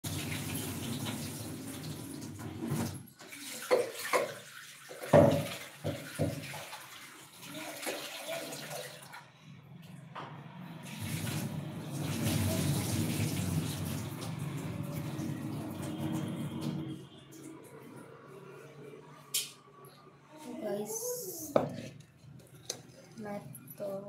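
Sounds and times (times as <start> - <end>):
water running: 0.0 - 10.0, 10.8 - 18.3, 20.5 - 24.0.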